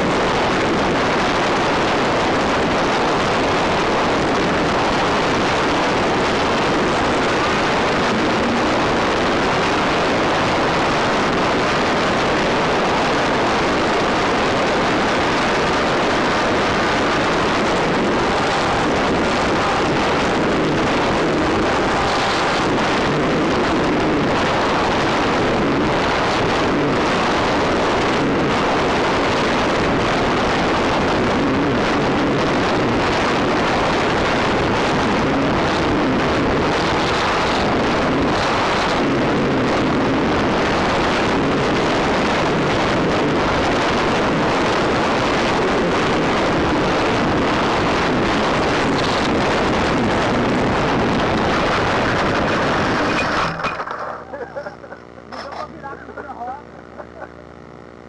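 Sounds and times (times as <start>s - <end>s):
rushing wind noise: 0.0s - 57.9s.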